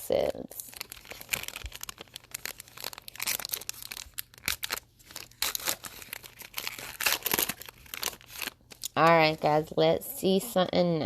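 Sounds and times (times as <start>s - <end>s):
wrapper tearing and crinkling: 0.3s - 9.4s.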